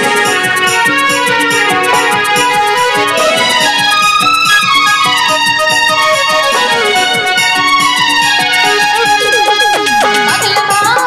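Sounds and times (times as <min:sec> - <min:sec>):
keyboard melody of held notes: 0:00.0 - 0:11.0
quick drum beats: 0:00.0 - 0:11.0.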